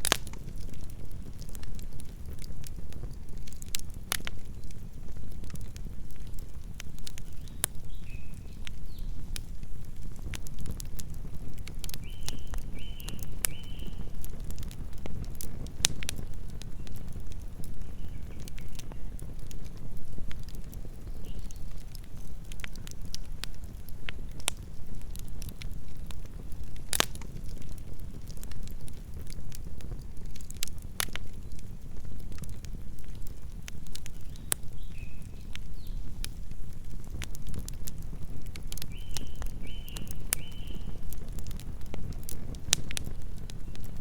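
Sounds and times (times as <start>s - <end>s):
campfire crackling and popping: 0.0s - 44.0s
low rumble of flames: 0.0s - 44.0s.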